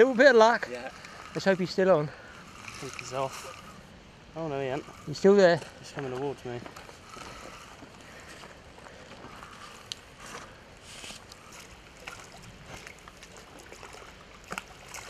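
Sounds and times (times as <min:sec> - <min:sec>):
fish splashing: 0:00.0 - 0:05.2, 0:06.8 - 0:15.0
faint wind: 0:00.0 - 0:15.0
water lapping: 0:00.0 - 0:15.0.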